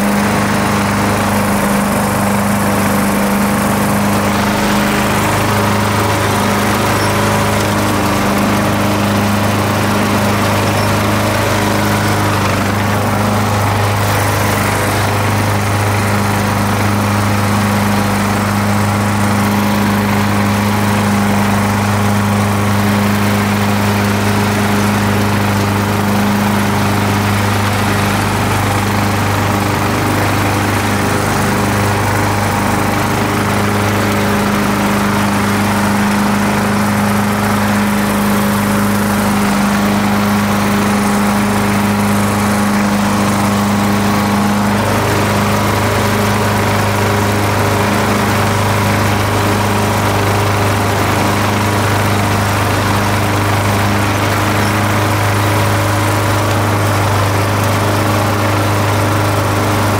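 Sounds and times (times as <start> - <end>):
lawn mower engine drone: 0.0 - 59.9.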